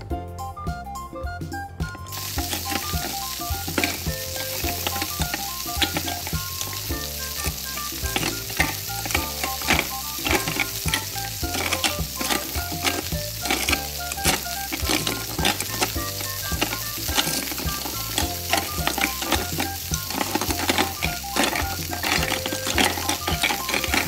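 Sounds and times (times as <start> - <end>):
frying sizzle sound effect: 0.7 - 24.0.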